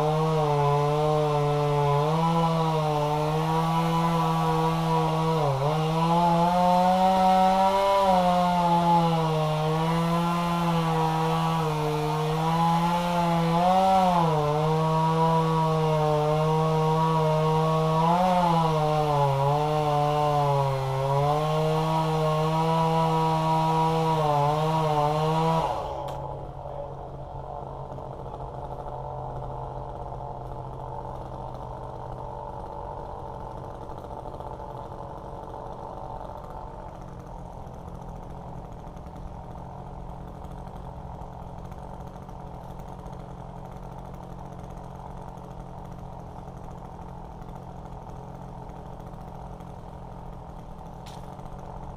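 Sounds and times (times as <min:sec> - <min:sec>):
chainsaw idling: 0:00.0 - 0:51.9
chainsaw revving: 0:00.0 - 0:51.9.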